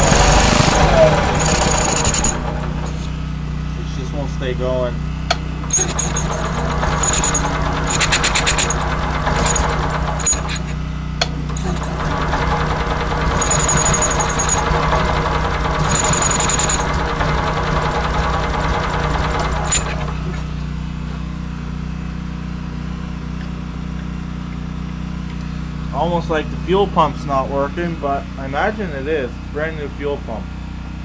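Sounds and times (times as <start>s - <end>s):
generator engine running unevenly: 0.0s - 31.0s.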